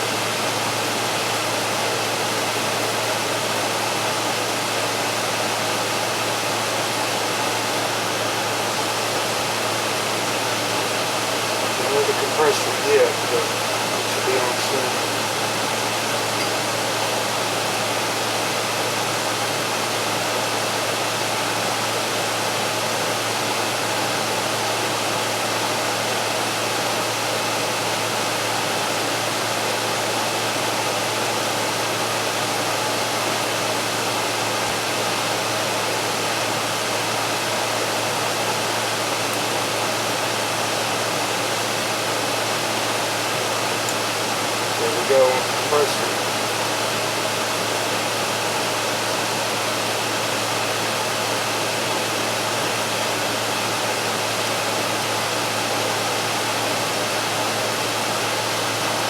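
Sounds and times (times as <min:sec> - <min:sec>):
air conditioner fan running: 0:00.0 - 0:59.0.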